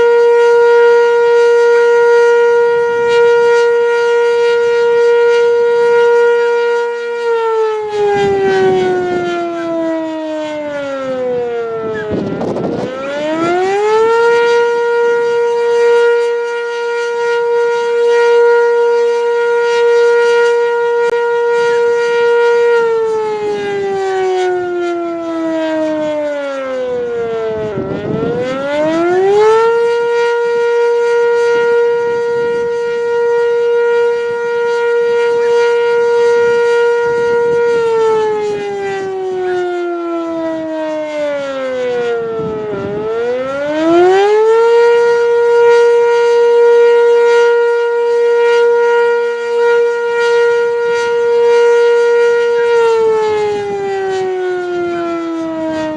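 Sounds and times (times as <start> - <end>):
warning siren winding: 0.0 - 55.9.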